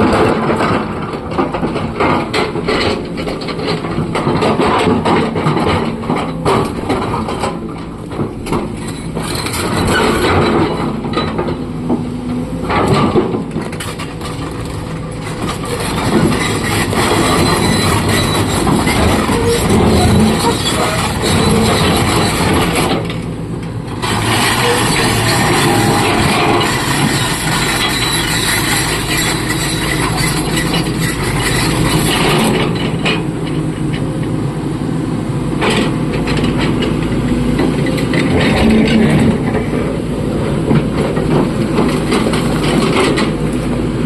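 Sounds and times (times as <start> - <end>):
machine clanks and rattles: 0.0 - 34.4, 35.6 - 43.7
excavator diesel engine running: 0.0 - 44.0.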